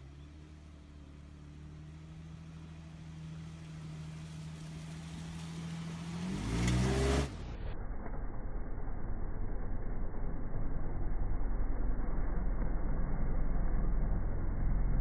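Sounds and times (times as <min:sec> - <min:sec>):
car engine approaching: 0:00.0 - 0:15.0.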